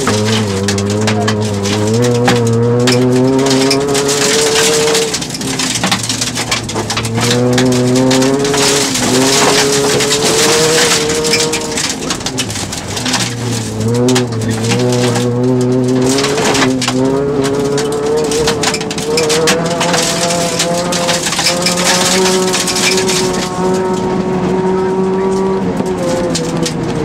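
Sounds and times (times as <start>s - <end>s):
car engine at high revs: 0.0s - 27.0s
gravel rattling against car underside: 0.0s - 27.0s.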